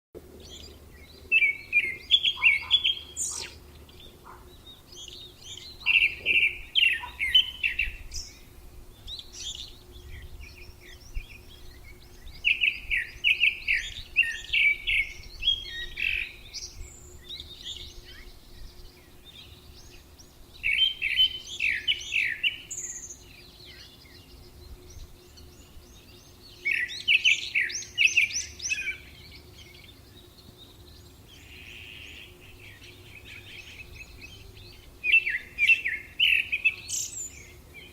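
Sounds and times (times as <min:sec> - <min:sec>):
faint steady hum: 0:00.2 - 0:37.9
faint bird chirps: 0:00.4 - 0:37.9
songbird singing rapid notes: 0:00.4 - 0:37.9.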